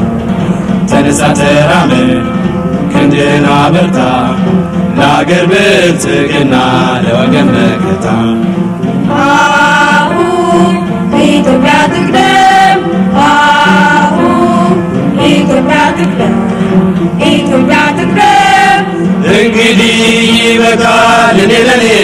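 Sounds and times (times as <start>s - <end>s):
steady musical accompaniment: 0.0s - 22.0s
voices singing together: 0.9s - 22.0s.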